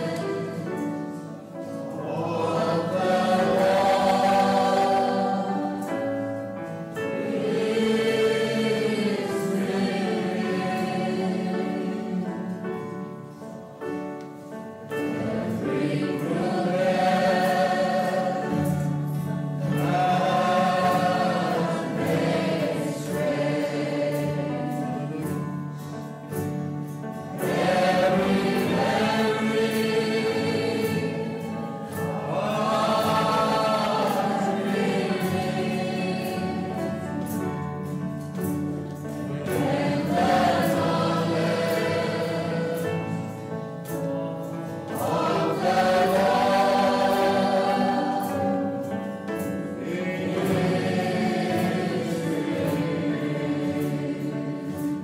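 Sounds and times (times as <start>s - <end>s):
choir singing sacred music: 0.0s - 55.0s.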